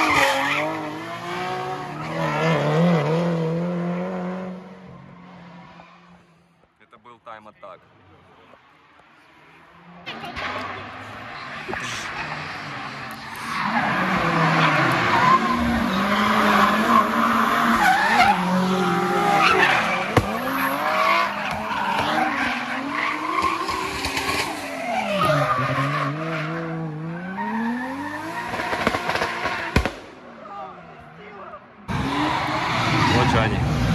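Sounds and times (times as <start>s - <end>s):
car engines revving: 0.0s - 6.8s, 7.7s - 33.9s.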